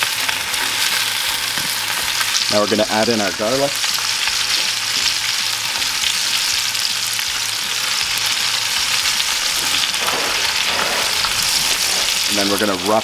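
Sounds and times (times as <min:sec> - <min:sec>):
steaks sizzling in a skillet: 0:00.0 - 0:13.0.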